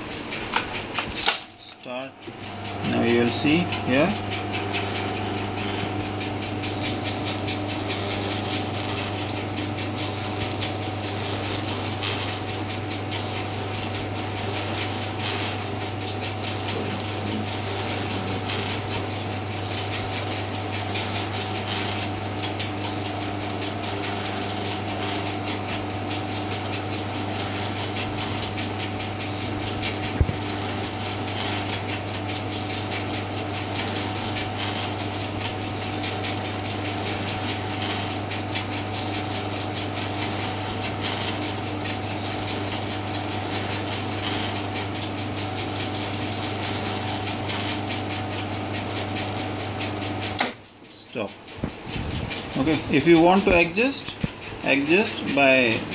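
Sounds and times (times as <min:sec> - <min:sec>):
shutter motor humming: 0:00.0 - 0:50.5.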